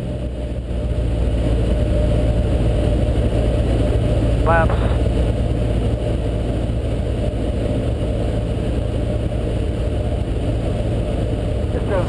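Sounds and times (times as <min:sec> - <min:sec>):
airplane engine and propeller drone: 0:00.0 - 0:12.0.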